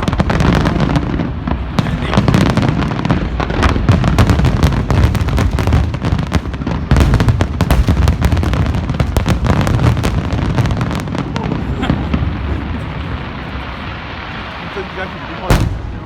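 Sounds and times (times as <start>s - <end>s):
fireworks bursts and crackle: 0.0s - 16.0s.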